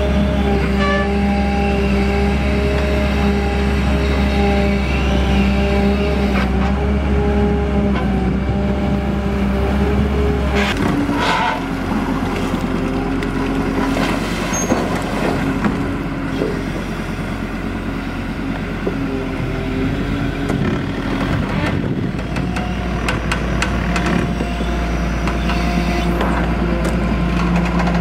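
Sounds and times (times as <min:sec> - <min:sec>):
dredger engine running: 0:00.0 - 0:28.0.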